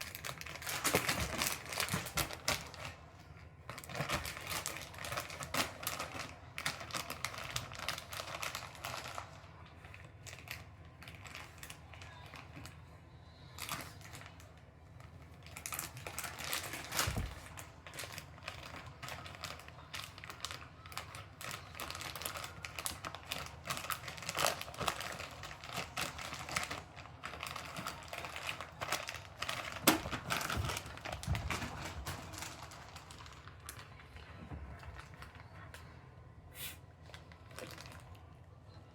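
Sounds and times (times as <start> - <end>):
plastic bag crinkling: 0.0 - 12.8, 15.4 - 35.8, 37.0 - 38.3.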